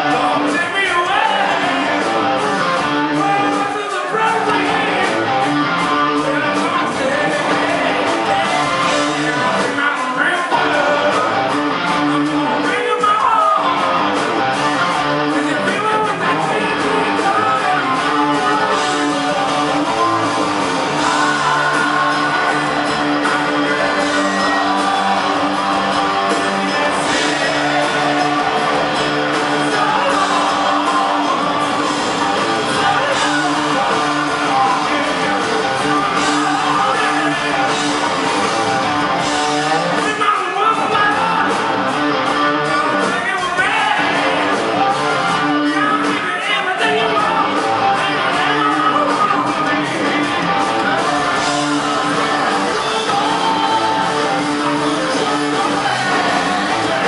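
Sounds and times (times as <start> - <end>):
person singing and shouting: 0.0 - 11.5, 12.2 - 13.9, 15.0 - 39.2, 39.8 - 41.9, 42.7 - 57.0
bass: 0.0 - 57.0
distorted electric guitars: 0.0 - 57.0
drums: 0.0 - 57.0.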